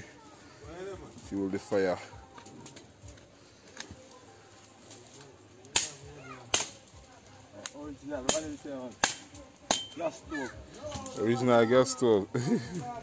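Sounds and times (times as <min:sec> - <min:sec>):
dry wood cracking: 0:00.0 - 0:11.6.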